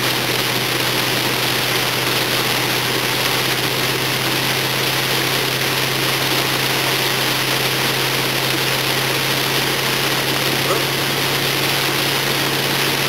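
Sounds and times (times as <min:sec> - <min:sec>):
car engine low hum: 0:00.0 - 0:13.0.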